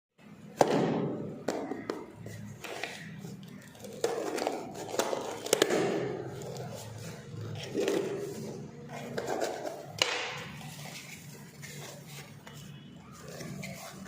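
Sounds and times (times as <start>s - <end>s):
packaging rustling and scraping: 2.2s - 14.0s.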